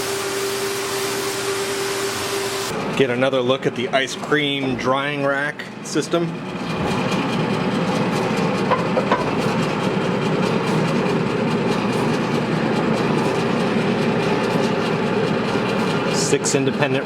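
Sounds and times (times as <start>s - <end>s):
machinery rattling hum: 2.6s - 17.0s.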